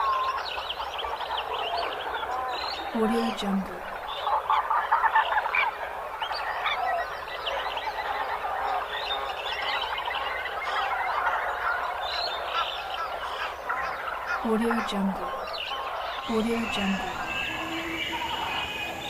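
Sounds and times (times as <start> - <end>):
chorus of small animals calling: 0.0 - 19.0.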